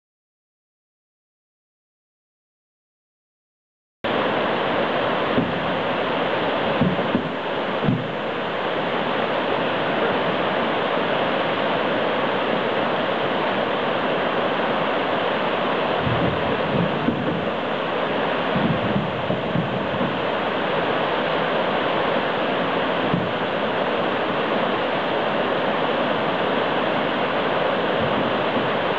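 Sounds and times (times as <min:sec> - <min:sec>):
river rapids rushing: 0:04.1 - 0:28.9.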